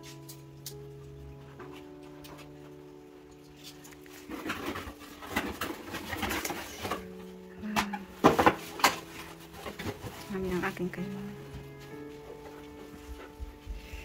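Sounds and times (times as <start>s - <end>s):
cardboard and plastic packaging rustling: 0.0s - 14.0s
soft background music: 0.0s - 14.0s.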